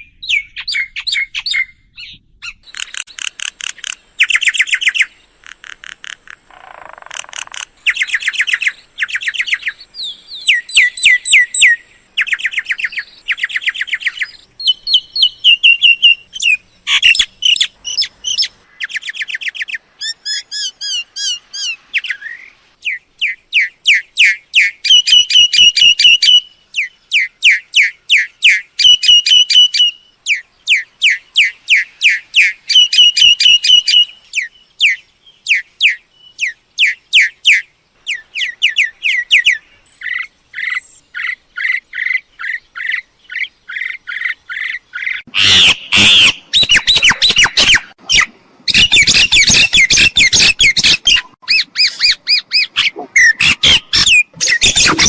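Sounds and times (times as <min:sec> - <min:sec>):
myna chirping and whistling: 0:06.9 - 0:55.0.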